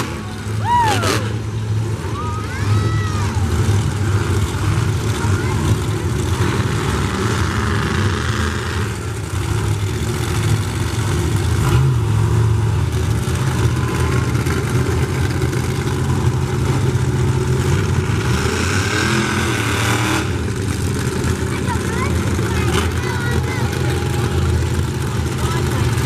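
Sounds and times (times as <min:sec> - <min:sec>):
monster truck engines rumbling: 0:00.0 - 0:26.0.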